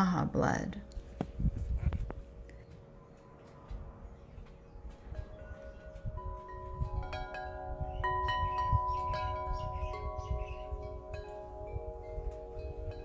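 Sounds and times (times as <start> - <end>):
chimes ringing: 2.4 - 13.0.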